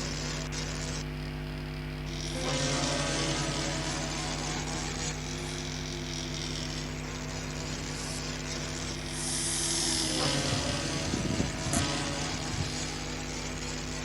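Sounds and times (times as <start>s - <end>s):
ship horn low note: 2.1s - 14.0s.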